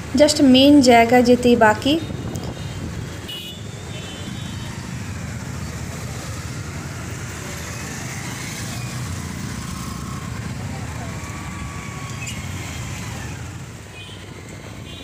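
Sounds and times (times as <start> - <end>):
road noise: 0.0 - 15.0
surrounding traffic: 0.0 - 15.0
motorbike engine: 2.0 - 15.0.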